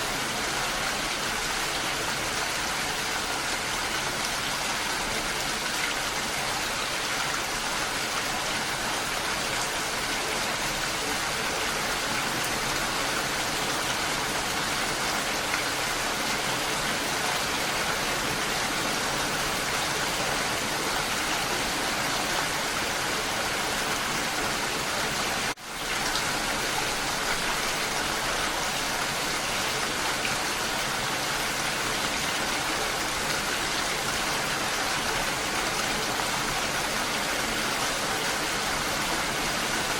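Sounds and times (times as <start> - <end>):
rain falling on bushes: 0.0 - 39.9.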